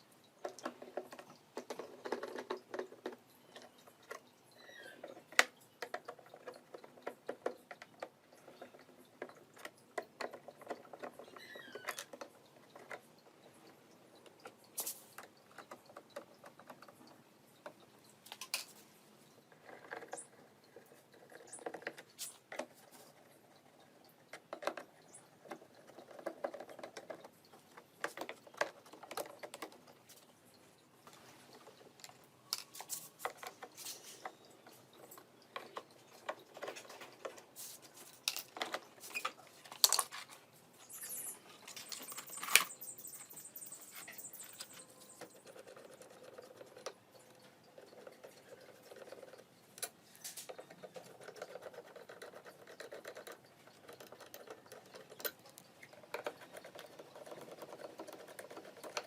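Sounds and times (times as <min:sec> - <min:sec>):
faint rustling and scraping: 0:00.5 - 0:59.0.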